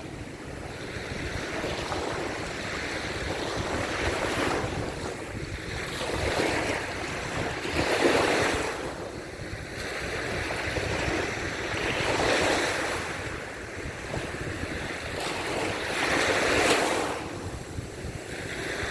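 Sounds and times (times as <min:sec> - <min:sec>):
waves breaking on beach: 0:00.0 - 0:18.9
wind on microphone: 0:00.0 - 0:18.9.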